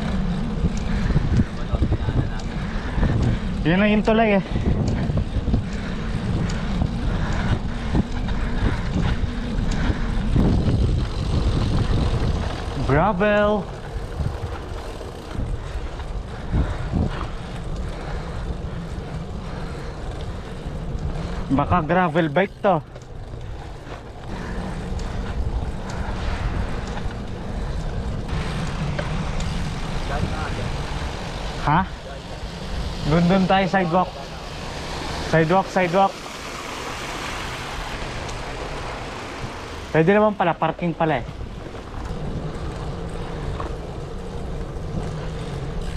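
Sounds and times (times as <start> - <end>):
bike rattling over stones: 0.0 - 45.9
low rumble of tyres: 0.0 - 45.9
wind buffeting microphone: 0.0 - 45.9.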